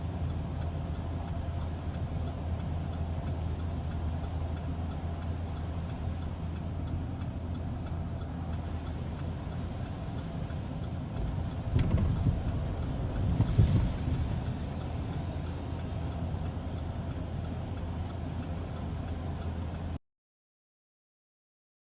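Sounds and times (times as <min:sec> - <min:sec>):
faint regular ticking: 0:00.0 - 0:20.0
vehicle engine and road noise: 0:00.0 - 0:20.0.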